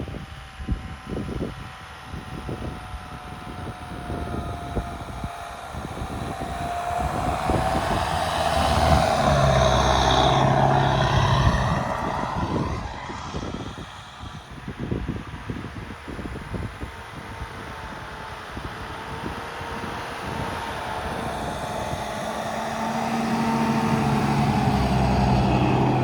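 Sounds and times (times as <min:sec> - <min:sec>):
pickup truck engine running hard: 0:03.6 - 0:26.0.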